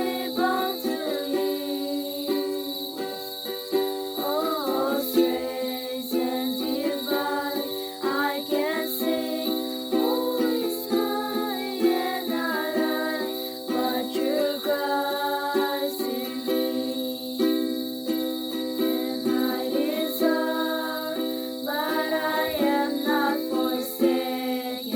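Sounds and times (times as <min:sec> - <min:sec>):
person singing: 0:00.0 - 0:03.4, 0:04.2 - 0:17.2, 0:18.8 - 0:24.9
strummed string accompaniment: 0:00.0 - 0:24.9.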